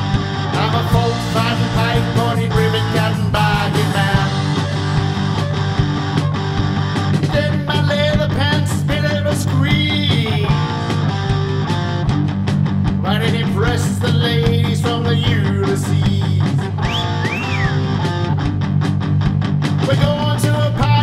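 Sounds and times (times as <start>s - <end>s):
lead guitar bending notes: 0.0s - 19.6s
bass line: 0.0s - 21.0s
drums: 0.0s - 21.0s.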